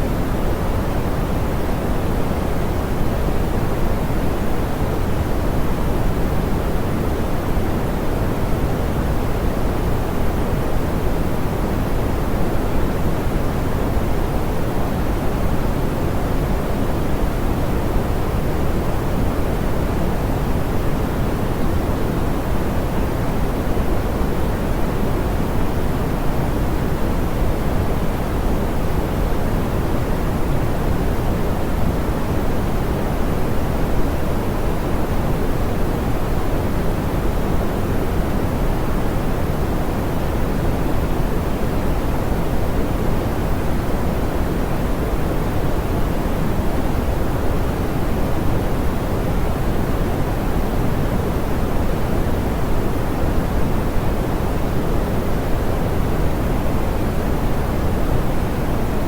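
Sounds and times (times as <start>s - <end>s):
soft pink noise hiss: 0.0s - 59.0s.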